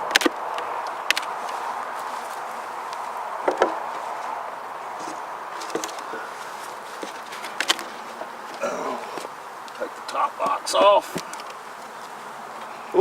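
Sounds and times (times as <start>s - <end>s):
wooden knocks of hive boxes: 0.0s - 12.8s
bees buzzing: 0.0s - 13.0s.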